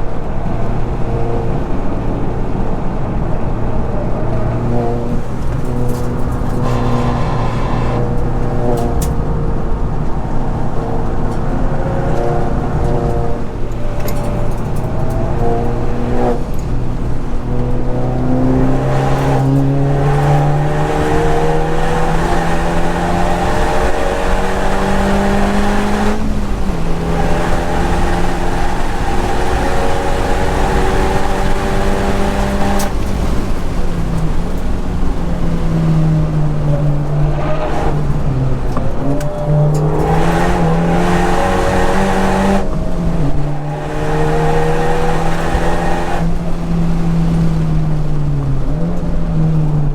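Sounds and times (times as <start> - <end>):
car engine accelerating hard: 0.0 - 49.9.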